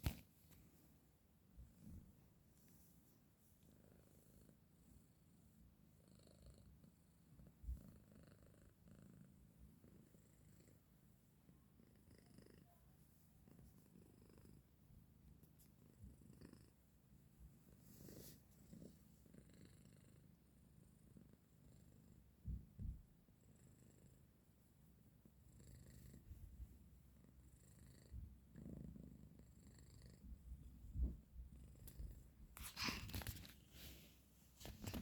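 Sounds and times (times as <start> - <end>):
cat purring: 1.4 - 35.0.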